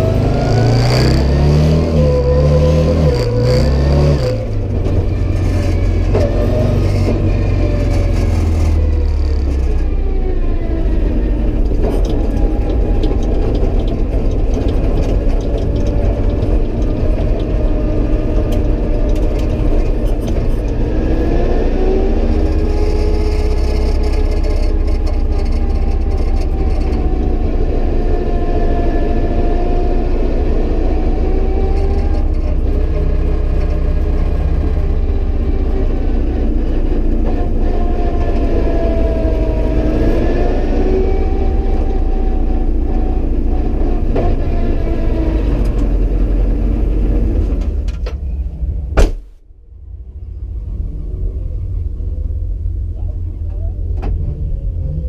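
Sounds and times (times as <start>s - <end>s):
car engine running inside cabin: 0.0s - 55.0s.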